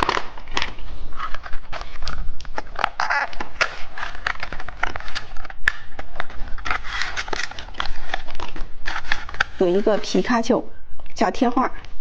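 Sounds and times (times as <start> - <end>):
packaging crinkling and tearing: 0.0 - 10.2.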